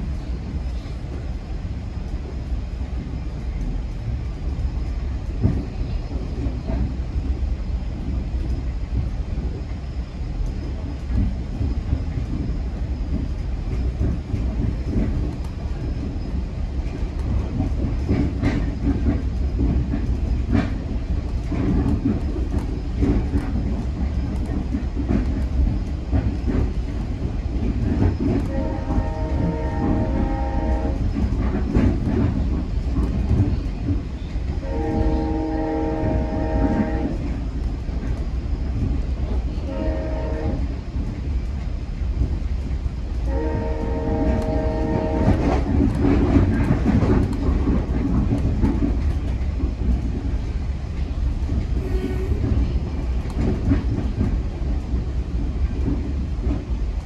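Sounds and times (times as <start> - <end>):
clicks and knocks of train: 0.0 - 57.0
train rumbling at speed: 0.0 - 57.0.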